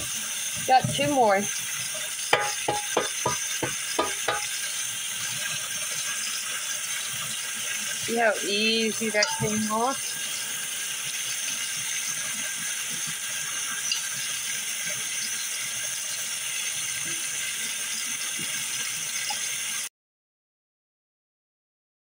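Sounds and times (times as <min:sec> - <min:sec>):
tap water running into sink: 0:00.0 - 0:19.9.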